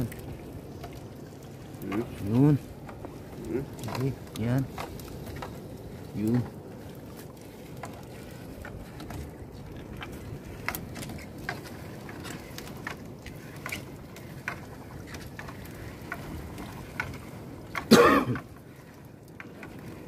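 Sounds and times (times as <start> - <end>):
background noise wash: 0.0 - 20.0.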